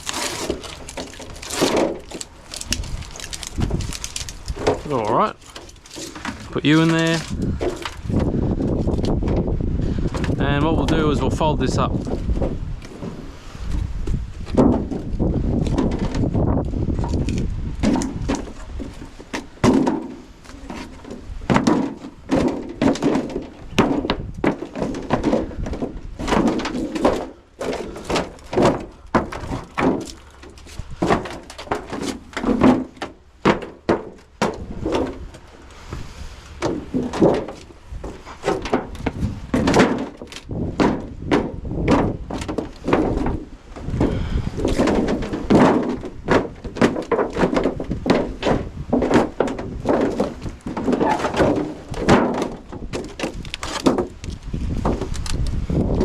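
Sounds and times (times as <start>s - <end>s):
metal and plastic parts clattering: 0.0s - 9.4s, 14.4s - 35.6s, 36.5s - 56.0s.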